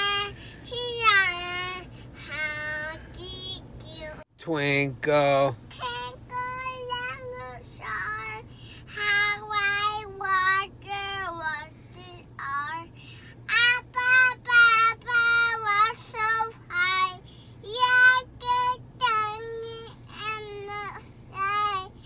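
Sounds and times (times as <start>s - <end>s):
girl singing: 0.0s - 4.2s, 5.7s - 22.0s.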